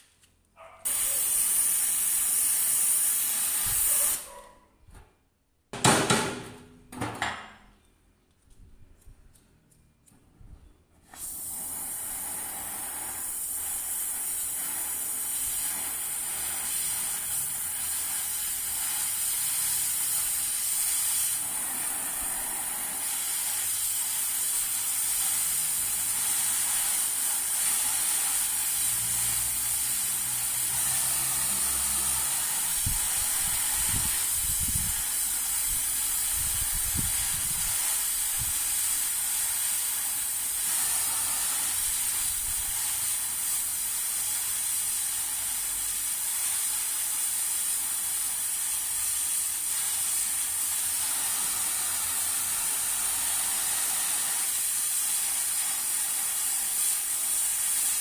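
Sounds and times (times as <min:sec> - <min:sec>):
compressed air hissing: 0:00.9 - 0:04.3, 0:11.0 - 0:58.0.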